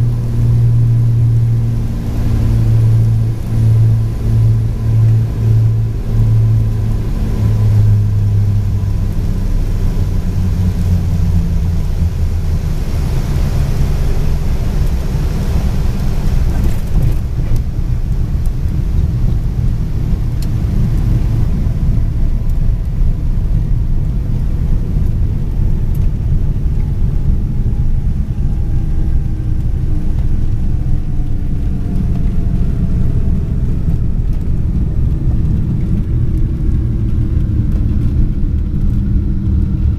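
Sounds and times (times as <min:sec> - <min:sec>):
rumble of airflow and wheels: 0:00.0 - 0:39.9
twin aircraft engines droning: 0:00.0 - 0:39.9.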